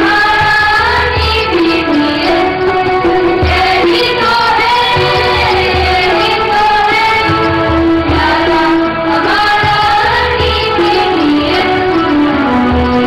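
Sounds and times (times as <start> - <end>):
children singing in unison: 0.0 - 13.0
drum: 0.0 - 13.0.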